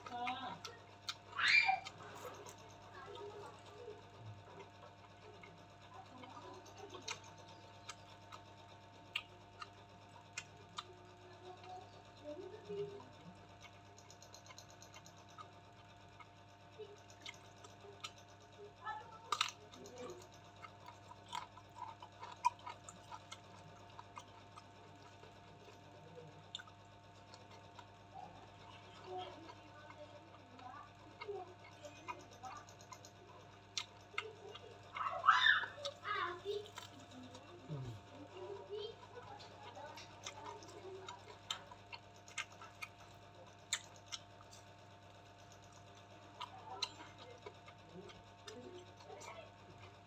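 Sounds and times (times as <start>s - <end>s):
chewing and mouth sounds: 0.0s - 50.0s
low electrical hum: 0.0s - 50.0s.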